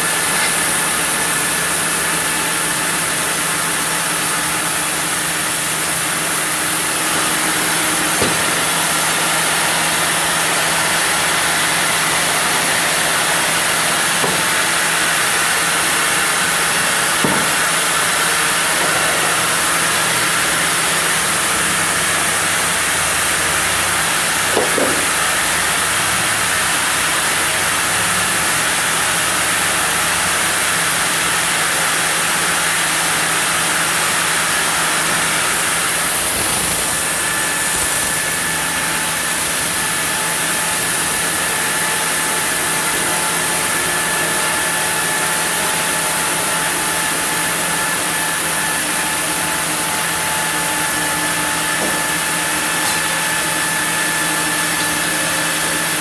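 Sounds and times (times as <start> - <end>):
sawmill saw hissing drone: 0.0 - 56.0.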